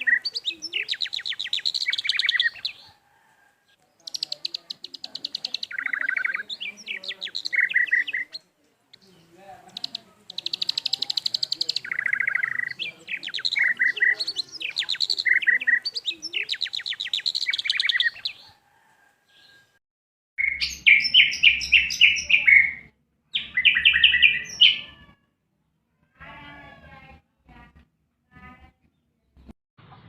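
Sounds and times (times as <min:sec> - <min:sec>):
songbird singing chirping notes: 0:00.0 - 0:19.8, 0:20.4 - 0:25.2.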